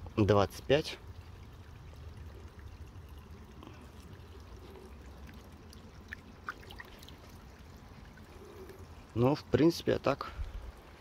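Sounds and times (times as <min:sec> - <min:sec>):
water trickling into pond: 0:00.0 - 0:11.0.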